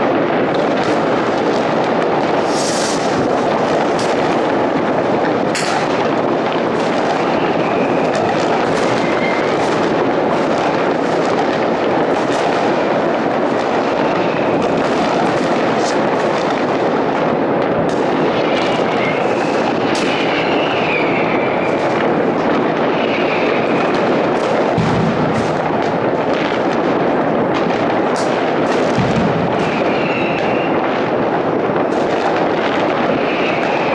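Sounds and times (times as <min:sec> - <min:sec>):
crackling firecrackers: 0:00.0 - 0:33.9
deep firework booms: 0:00.0 - 0:33.9
distant firework bangs: 0:00.0 - 0:33.9
sharp firework cracks: 0:00.0 - 0:33.9
whistling fireworks: 0:00.0 - 0:33.9.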